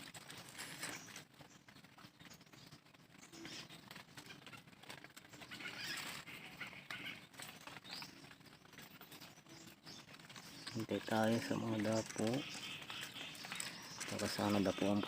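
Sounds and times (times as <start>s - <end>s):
faint bird calls: 0.0s - 15.0s
low background rustle: 0.0s - 15.0s.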